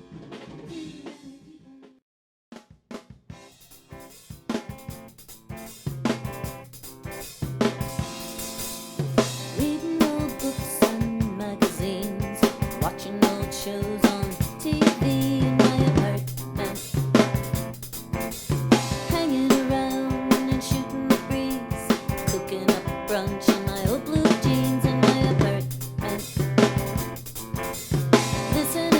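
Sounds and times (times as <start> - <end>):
drum kit beat: 0.0 - 1.5, 2.5 - 28.9.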